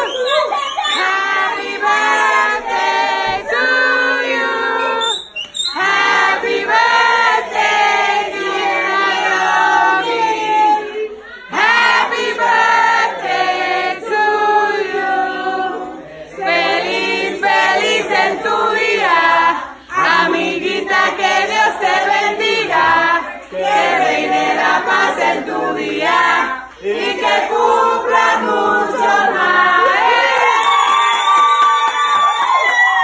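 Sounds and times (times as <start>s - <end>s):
crowd singing a birthday song: 0.0s - 30.6s.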